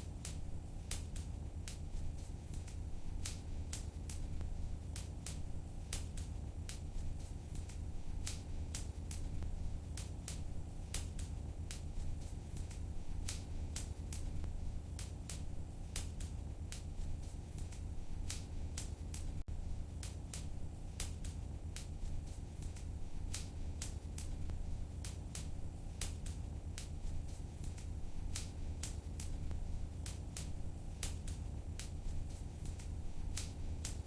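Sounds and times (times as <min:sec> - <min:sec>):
low rumble of flames: 0:00.0 - 0:34.0
fire crackling and popping: 0:00.1 - 0:34.0.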